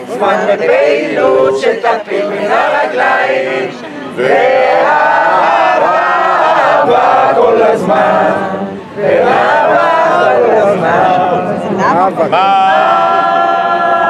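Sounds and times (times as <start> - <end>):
group of people singing: 0.0 - 14.0.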